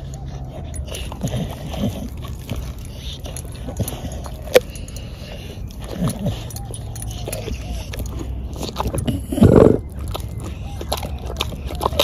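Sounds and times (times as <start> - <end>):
dog gnawing bones: 0.0 - 12.0
dog grunting: 0.0 - 12.0.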